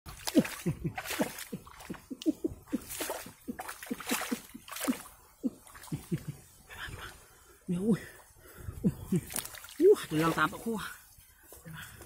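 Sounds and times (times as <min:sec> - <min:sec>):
muddy water splashing: 0:00.1 - 0:12.0.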